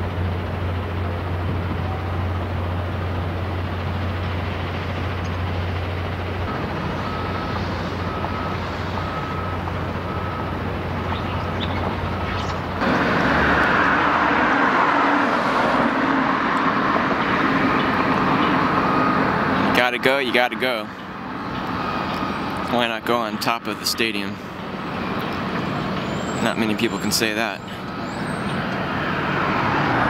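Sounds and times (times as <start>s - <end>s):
road and wind noise: 0.0s - 30.0s
vehicle engine humming: 0.0s - 30.0s.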